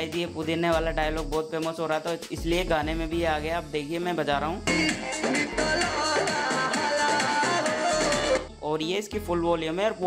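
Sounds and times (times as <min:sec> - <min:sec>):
song through small speaker: 0:00.0 - 0:09.9.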